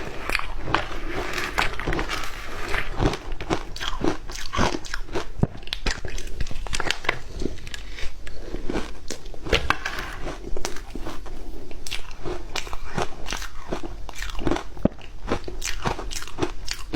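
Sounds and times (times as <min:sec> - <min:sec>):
ice being chewed: 0:00.0 - 0:16.9.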